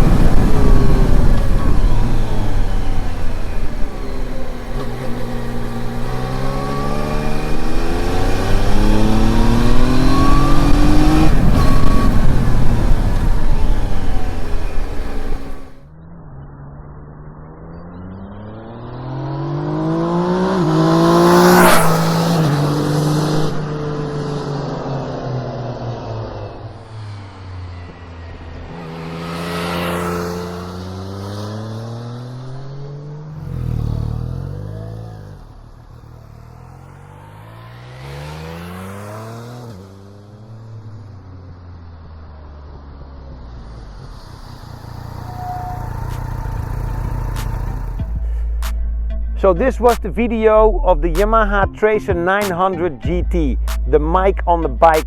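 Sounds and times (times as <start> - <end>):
motorcycle passing by: 0.0 - 48.3
motorcycle engine accelerating: 0.0 - 52.4.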